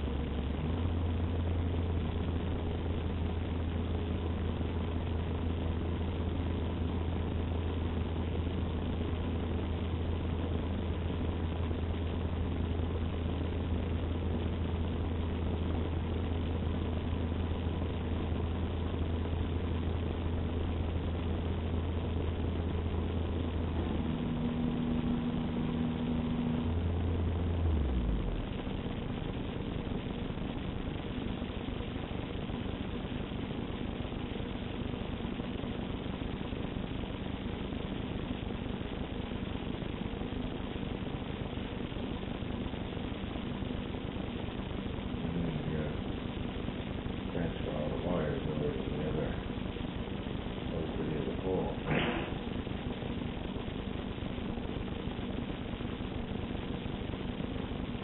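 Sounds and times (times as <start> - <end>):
muffled truck engine running: 0.0 - 58.0.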